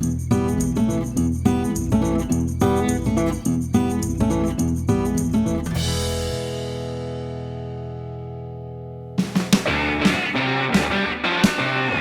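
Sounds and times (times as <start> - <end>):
country music with acoustic guitar: 0.0 - 12.0.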